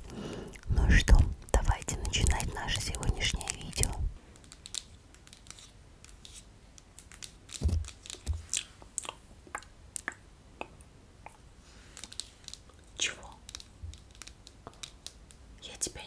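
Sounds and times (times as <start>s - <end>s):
soft clicks and crackles: 0.0s - 16.0s.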